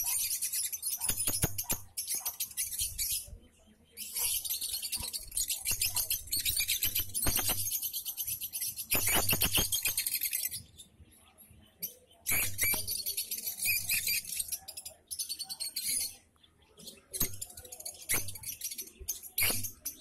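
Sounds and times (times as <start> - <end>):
lovebirds chirping shrilly: 0.0 - 11.1, 11.8 - 20.0.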